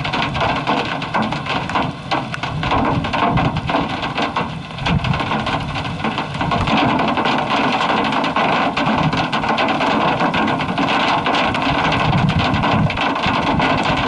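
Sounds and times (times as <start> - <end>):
hail clattering on vehicle: 0.0 - 14.0
rain hissing: 0.0 - 14.0.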